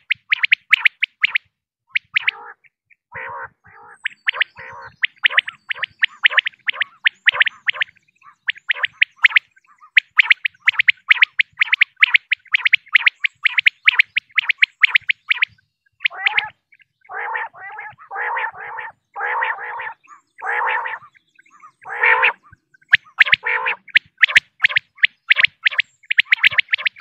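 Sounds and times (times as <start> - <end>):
quail chirping: 0.0 - 27.0
quail rasping notes: 2.0 - 27.0.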